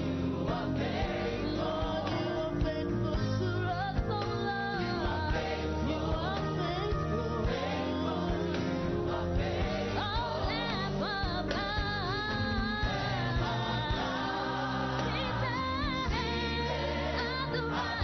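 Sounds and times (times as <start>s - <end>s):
gospel song with band: 0.0s - 18.0s.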